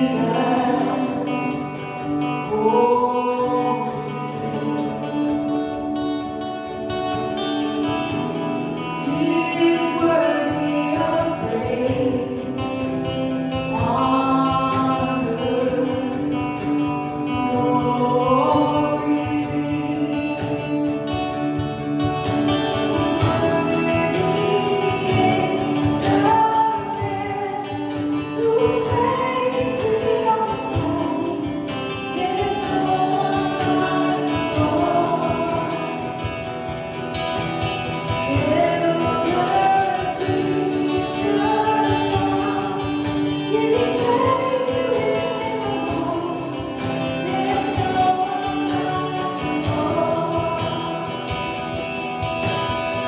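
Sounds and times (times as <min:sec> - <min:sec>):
voices singing together: 0:00.0 - 0:53.0
instrumental accompaniment with beat: 0:04.4 - 0:53.0.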